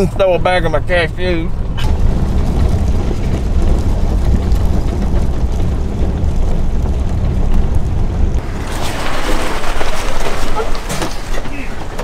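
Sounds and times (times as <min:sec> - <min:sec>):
vehicle rumble on gravel road: 0:00.0 - 0:12.0.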